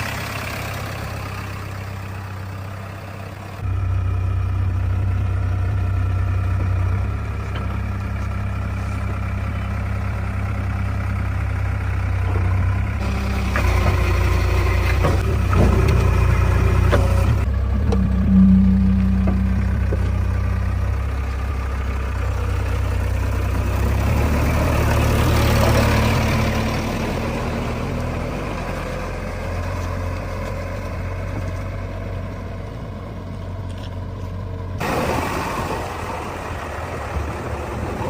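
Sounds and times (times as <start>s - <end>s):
diesel engine humming: 0.0s - 38.0s.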